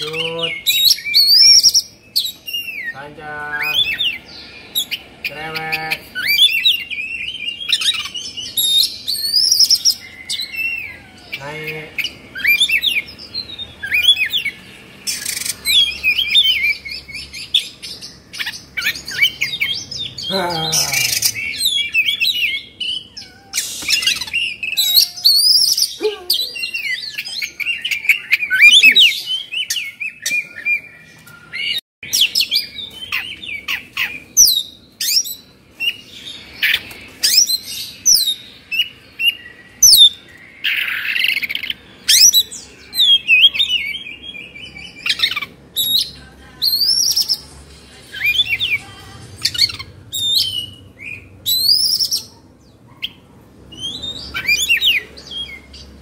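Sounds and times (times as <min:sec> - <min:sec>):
songbird singing rapid phrases: 0:00.0 - 0:56.0.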